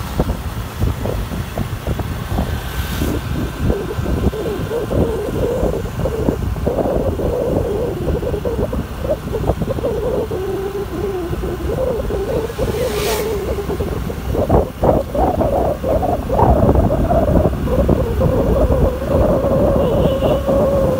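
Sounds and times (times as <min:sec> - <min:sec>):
scooter engine droning: 0:00.0 - 0:20.9
wind buffeting microphone: 0:00.0 - 0:20.9.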